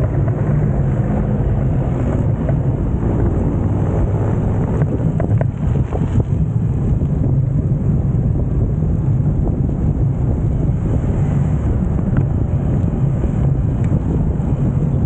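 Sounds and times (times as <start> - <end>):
motorcycles: 0.0 - 15.0
traffic rumble: 0.0 - 15.0
wind buffeting microphone: 0.0 - 15.0.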